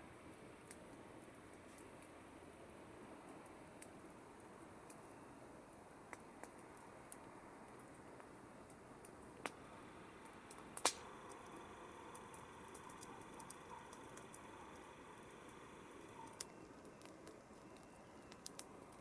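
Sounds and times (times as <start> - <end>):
campfire burning with hiss: 0.0 - 19.0
wood crackling and popping: 0.3 - 19.0.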